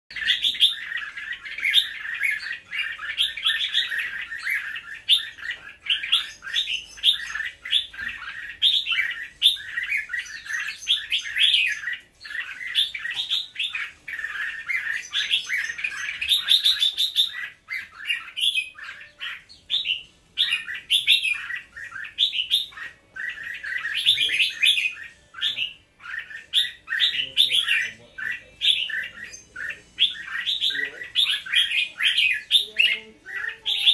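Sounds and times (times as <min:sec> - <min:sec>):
bird chirping and whistling: 0:00.1 - 0:33.9.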